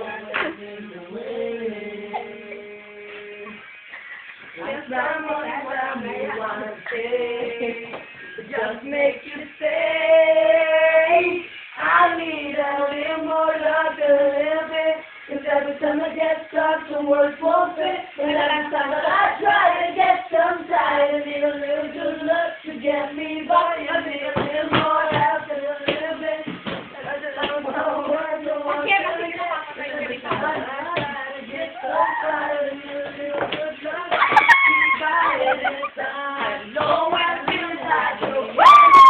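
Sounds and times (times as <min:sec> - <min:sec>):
person singing: 0:00.0 - 0:03.7, 0:04.5 - 0:39.0.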